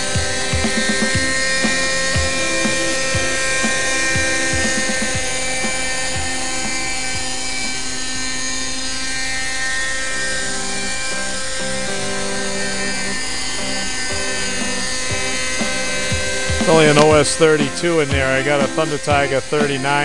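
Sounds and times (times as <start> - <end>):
model helicopter engine whine: 0.0 - 20.0.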